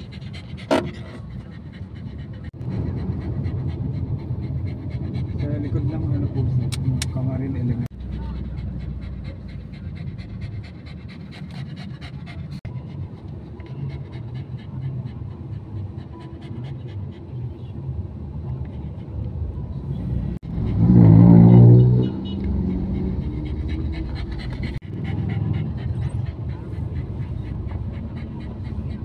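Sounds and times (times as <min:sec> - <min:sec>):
dog panting: 0:00.0 - 0:29.0.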